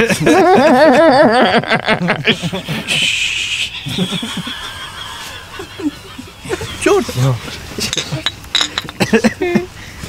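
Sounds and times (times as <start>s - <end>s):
men laughing: 0.0s - 9.8s.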